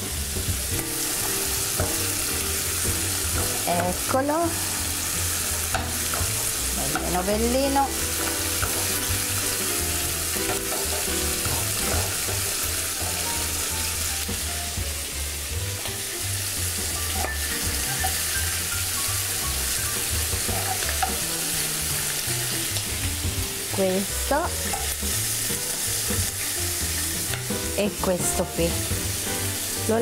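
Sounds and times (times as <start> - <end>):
meat sizzling in a frying pan: 0.0 - 30.0
utensil turning meat in pan: 0.0 - 30.0.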